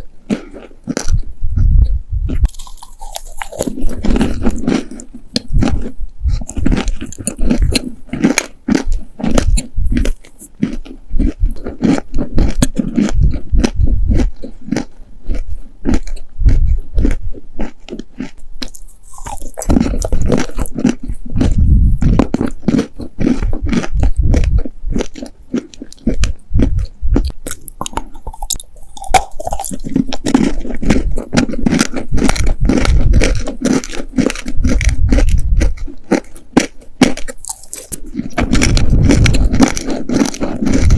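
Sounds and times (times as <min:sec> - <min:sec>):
chewing crunchy cookies: 0:00.0 - 0:40.9.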